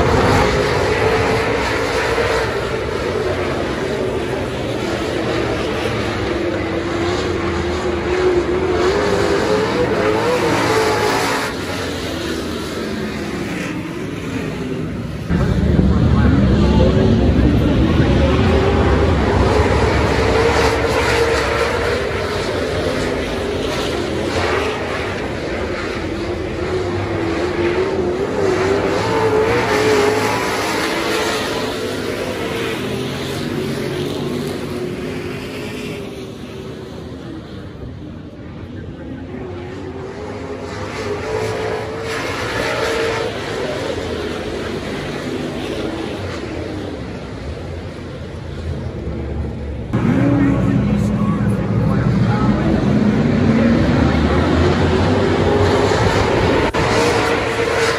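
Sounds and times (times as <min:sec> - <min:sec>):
race car engine running hard: 0:00.0 - 0:57.9.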